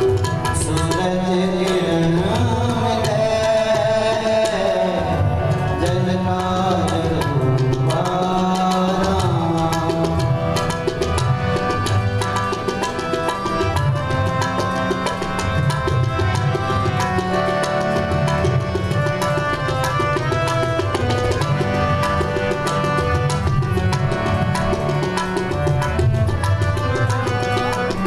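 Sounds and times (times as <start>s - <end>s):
harmoniums playing chords: 0.0s - 28.0s
tabla drumming: 0.0s - 28.0s.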